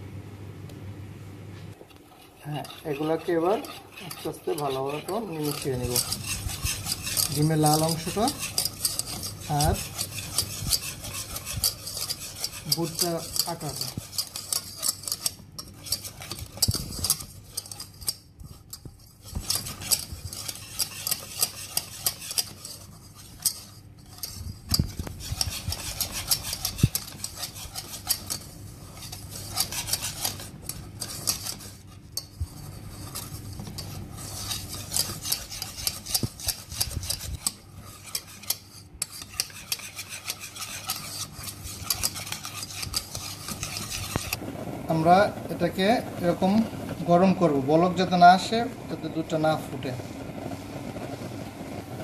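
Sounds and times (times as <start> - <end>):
wire whisk scraping metal pan: 1.8 - 51.7.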